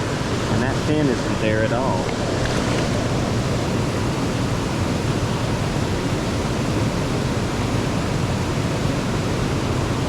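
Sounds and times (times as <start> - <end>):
rush of fast-flowing water: 0.0 - 10.0.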